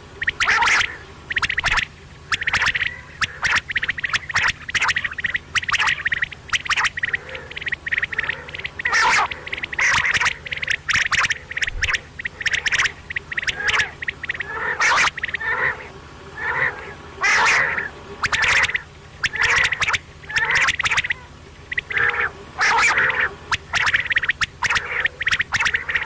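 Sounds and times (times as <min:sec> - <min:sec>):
quail calling in rapid bursts: 0:00.0 - 0:26.0.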